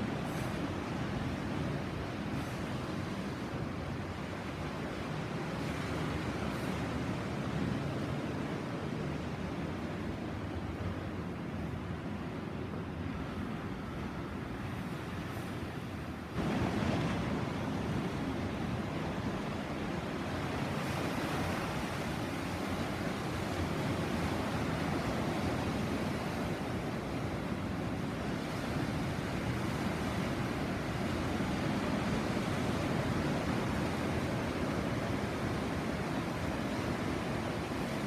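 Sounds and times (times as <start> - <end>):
sea surf washing on shore: 0.0 - 38.0.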